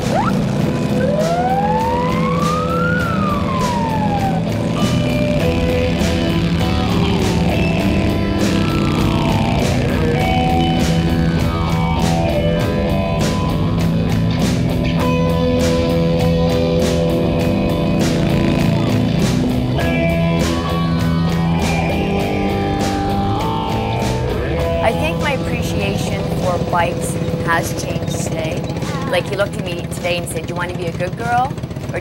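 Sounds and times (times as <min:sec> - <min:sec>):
rock music with guitar: 0:00.0 - 0:29.7.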